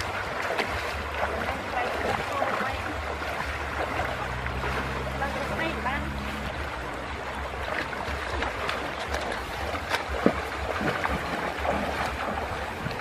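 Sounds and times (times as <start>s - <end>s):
feet wading and splashing: 0.0s - 13.0s
river water running over stones: 0.0s - 13.0s.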